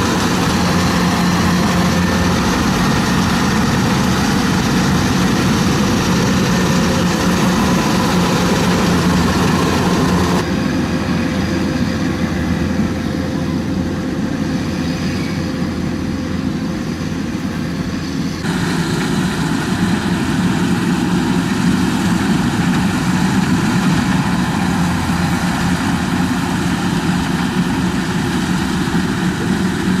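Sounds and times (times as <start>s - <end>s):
heavy farm machine engine running: 0.0s - 14.8s, 15.6s - 30.0s.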